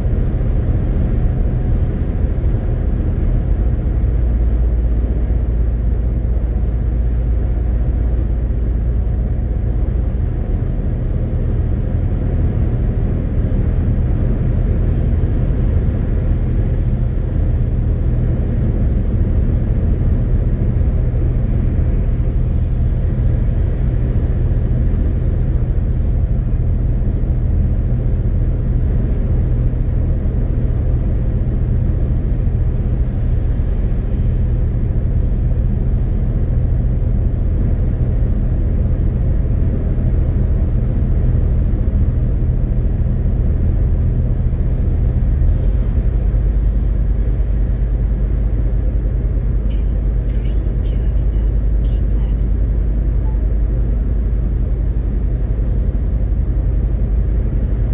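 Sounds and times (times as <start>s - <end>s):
road noise: 0.0s - 57.9s
truck diesel engine drone: 0.0s - 57.9s.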